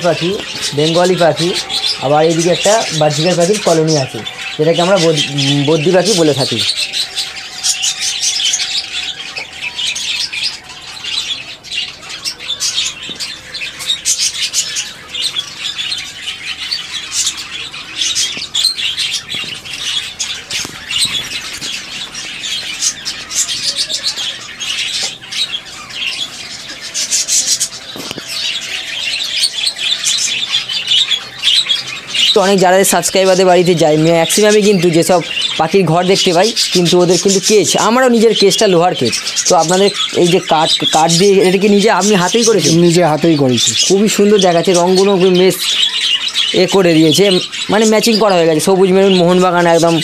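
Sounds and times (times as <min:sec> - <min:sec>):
caged birds chattering and chirping: 0:00.0 - 0:50.0.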